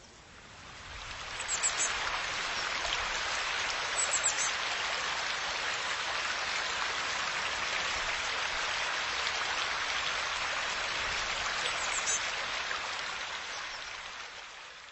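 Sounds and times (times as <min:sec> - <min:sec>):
steady hiss of water: 0:00.0 - 0:14.9.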